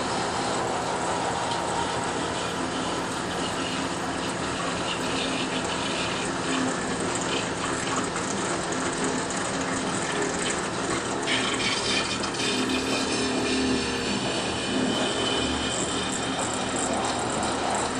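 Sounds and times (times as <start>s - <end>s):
low pump hum: 0.0s - 17.9s
water spraying into glass vessel: 1.3s - 17.9s.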